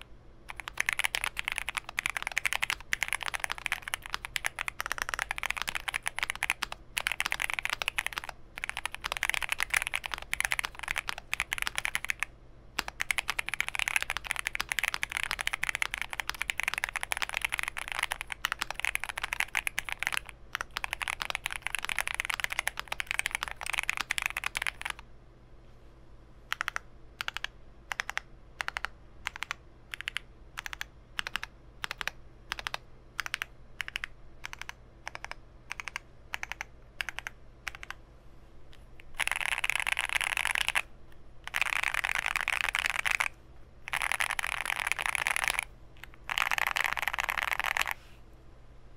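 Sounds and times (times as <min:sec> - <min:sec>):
mechanical keyboard typing: 0:00.0 - 0:25.0, 0:26.5 - 0:38.0, 0:39.0 - 0:40.9, 0:41.5 - 0:48.0.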